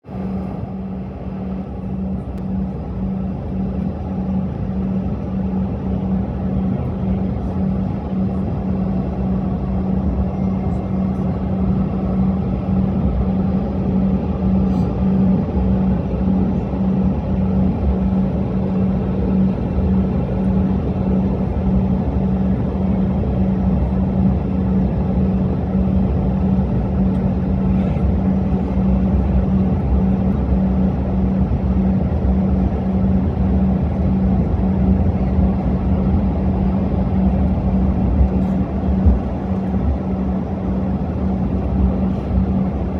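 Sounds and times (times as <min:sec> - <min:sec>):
engine rumble with low hum: 0:00.0 - 0:42.9.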